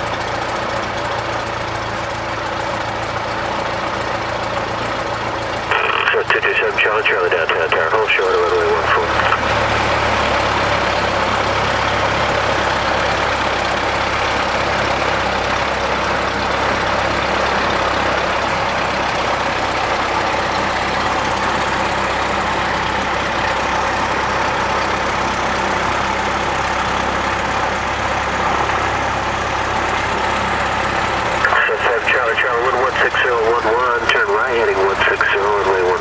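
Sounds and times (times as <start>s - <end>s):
small plane engine drone: 0.0s - 36.0s.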